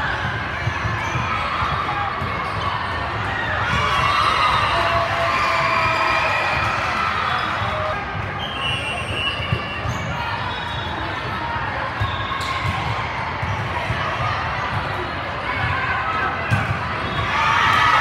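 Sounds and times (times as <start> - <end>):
chatter and shouts: 0.0 - 18.0.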